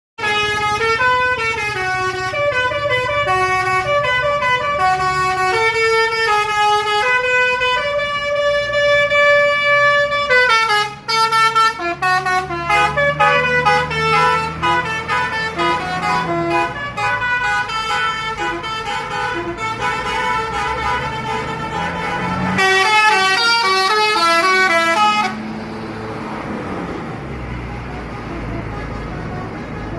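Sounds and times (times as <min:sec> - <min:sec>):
multi-tone musical bus horn: 0:00.2 - 0:25.5, 0:27.2 - 0:29.9.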